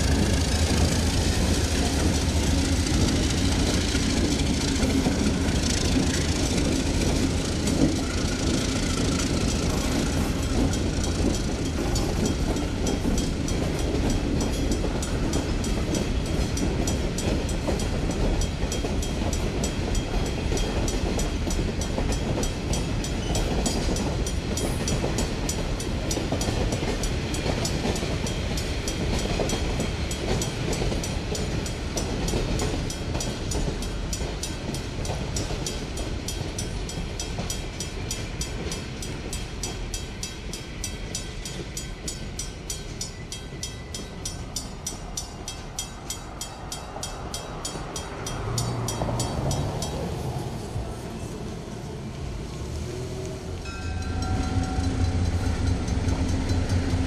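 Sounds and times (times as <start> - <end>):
freight train rumbling: 0.0 - 57.0
train wheels clicking: 0.0 - 57.0.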